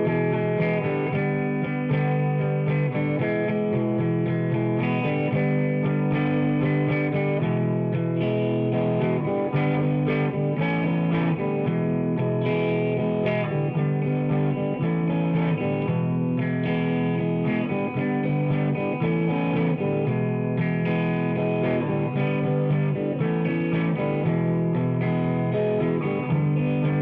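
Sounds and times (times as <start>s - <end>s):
distorted electric guitar over a beat: 0.0s - 27.0s.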